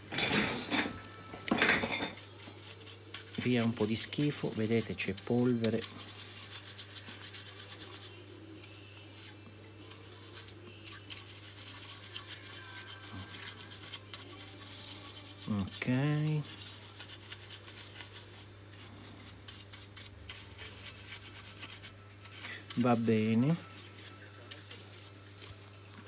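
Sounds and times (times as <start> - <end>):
paintbrush scrubbing circuit board: 2.2 - 26.0.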